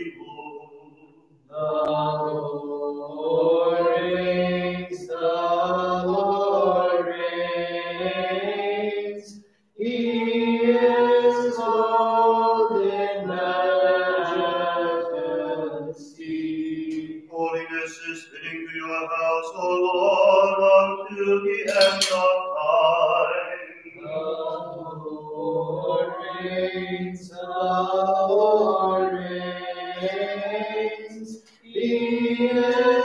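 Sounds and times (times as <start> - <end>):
voices chanting a hymn: 0.0 - 33.0.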